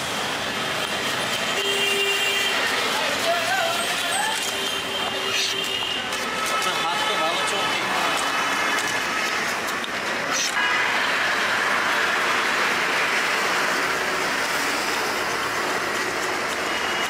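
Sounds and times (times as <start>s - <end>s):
busy street noise: 0.0s - 17.0s.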